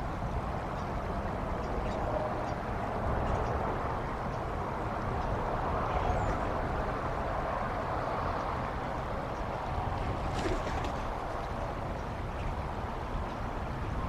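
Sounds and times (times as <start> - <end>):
rushing wind: 0.0 - 14.0
wind buffeting microphone: 0.0 - 14.0.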